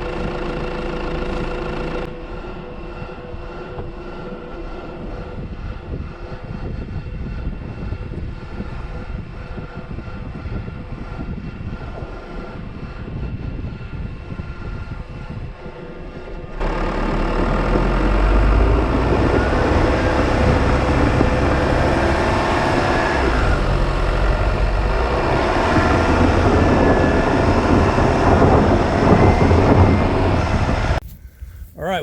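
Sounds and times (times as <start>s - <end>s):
utility vehicle rumbling and rattling: 0.0s - 31.6s.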